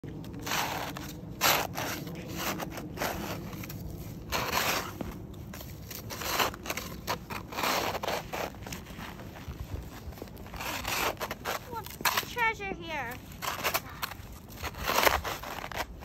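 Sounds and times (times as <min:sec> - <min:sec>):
plastic scoop scraping snow: 0:00.2 - 0:16.0.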